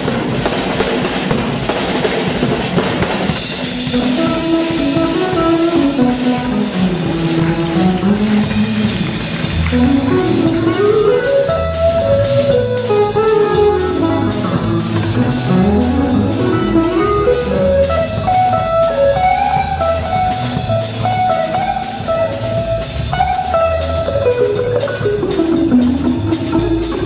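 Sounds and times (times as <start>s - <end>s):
drum kit: 0.0s - 27.0s
bass line: 3.6s - 27.0s
electric guitar solo: 3.8s - 27.0s.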